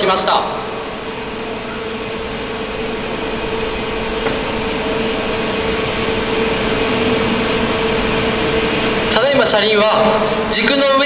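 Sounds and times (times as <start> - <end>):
hydraulic pump humming: 0.0 - 11.0.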